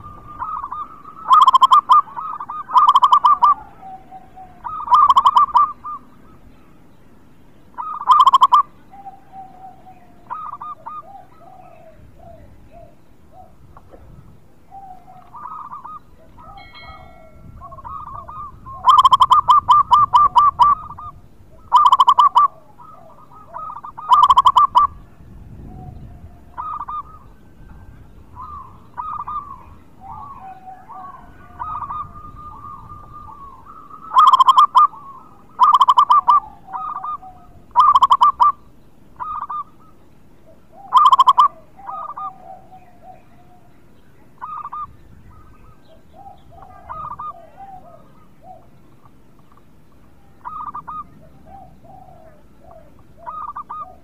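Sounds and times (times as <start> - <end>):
dove cooing song: 0.0 - 6.9, 7.7 - 54.0.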